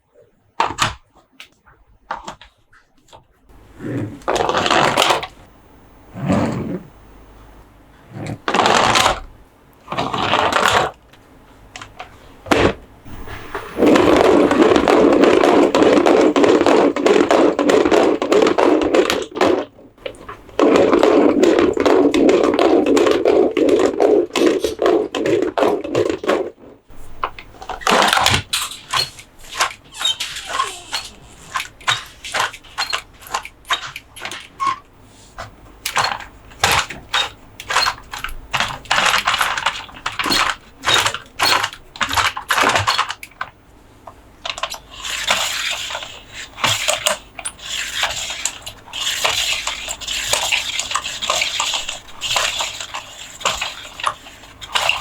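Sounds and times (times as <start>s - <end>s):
steady rubbing noise: 3.4s - 42.6s, 44.7s - 55.0s.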